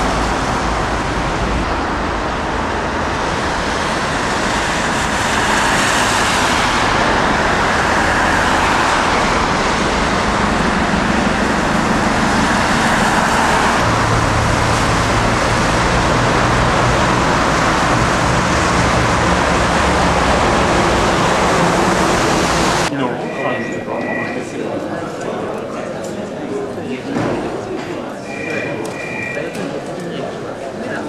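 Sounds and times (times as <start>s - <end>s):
car engines passing: 0.0s - 31.0s.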